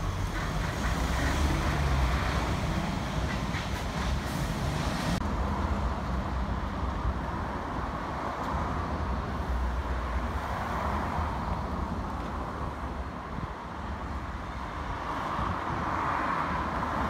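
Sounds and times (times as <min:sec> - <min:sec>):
hiss of passing traffic: 0:00.0 - 0:17.0
street traffic noise: 0:00.0 - 0:17.0.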